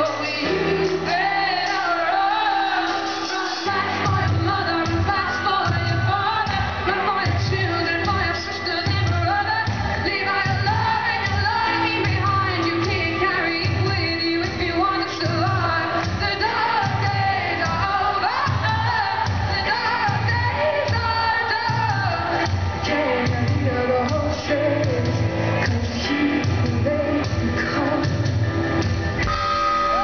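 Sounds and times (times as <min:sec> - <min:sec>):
woman singing: 0:00.0 - 0:29.0
live band music: 0:00.0 - 0:30.0.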